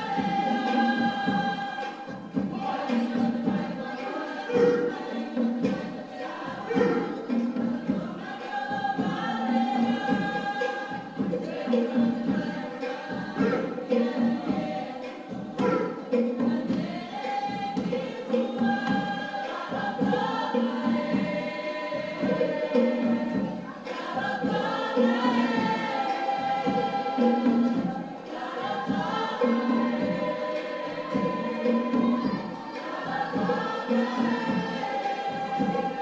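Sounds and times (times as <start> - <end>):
choir singing in harmony: 0.0 - 36.0.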